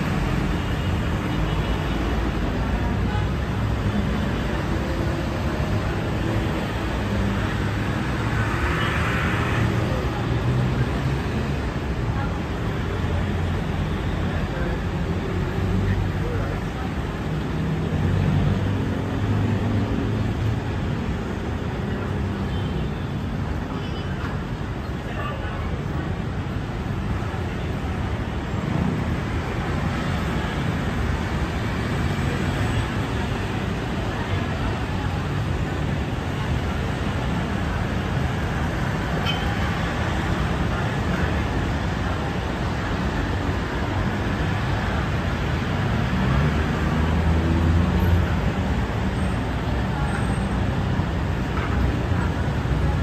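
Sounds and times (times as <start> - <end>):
tyres on the road: 0.0 - 53.0.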